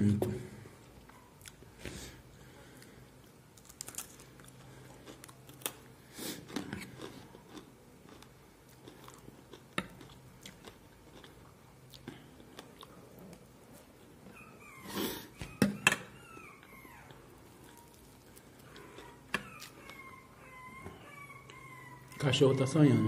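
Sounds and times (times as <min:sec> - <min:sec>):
man chewing food: 0:00.6 - 0:22.3.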